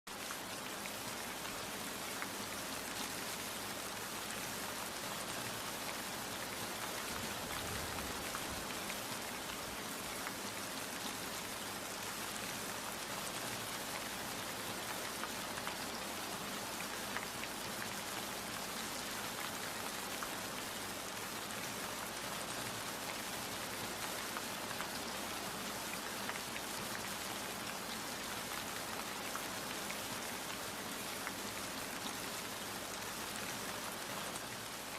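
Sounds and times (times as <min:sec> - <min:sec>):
hiss of downpour: 0:00.1 - 0:34.9
rain drops ticking on a surface: 0:00.1 - 0:34.9.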